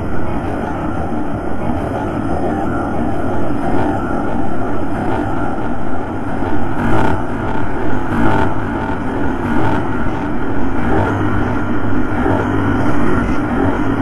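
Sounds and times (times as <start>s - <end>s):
dark ambient drone: 0.0s - 14.0s.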